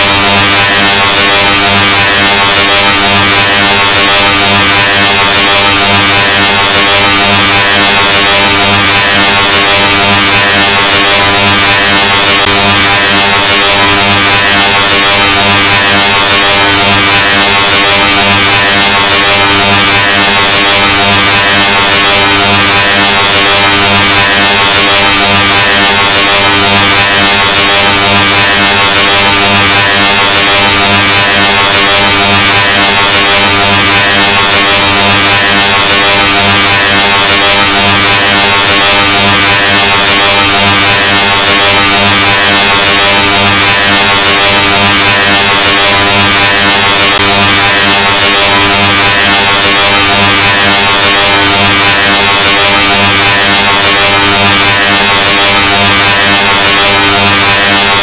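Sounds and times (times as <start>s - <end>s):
distorted buzzing tone: 0.0s - 58.0s.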